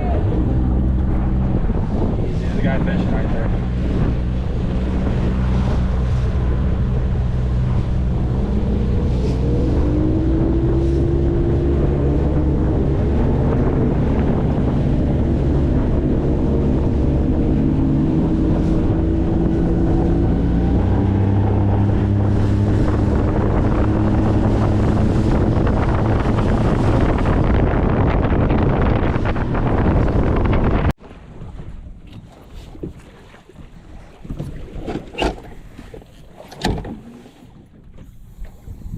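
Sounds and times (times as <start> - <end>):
outboard motor running: 0.0 - 38.9
wind buffeting microphone: 0.0 - 38.9.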